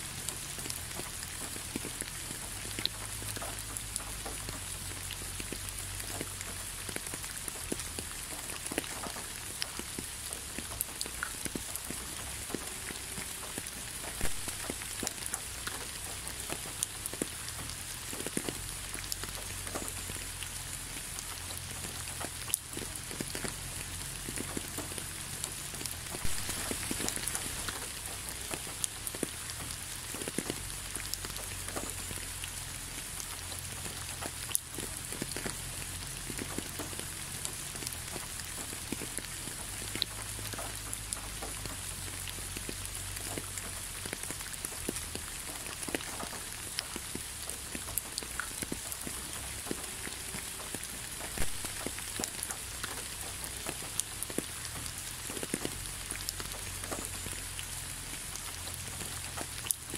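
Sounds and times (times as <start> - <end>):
raindrops ticking close by: 0.0 - 59.9
steady rain falling: 0.0 - 59.9.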